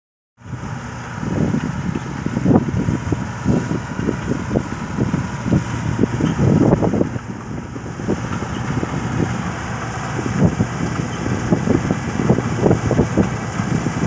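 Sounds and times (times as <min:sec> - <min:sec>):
combine harvester humming: 0:00.4 - 0:14.0.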